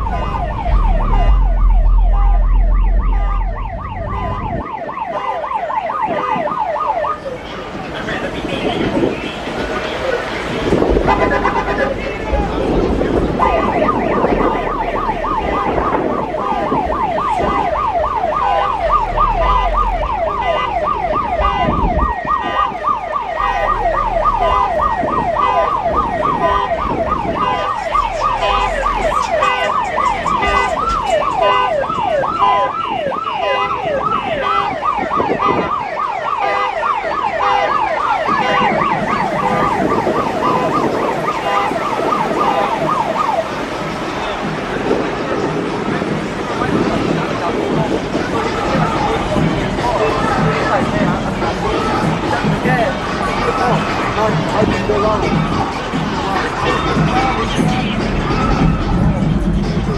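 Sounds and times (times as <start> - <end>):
electronic yelp siren wailing: 0.0 - 59.0.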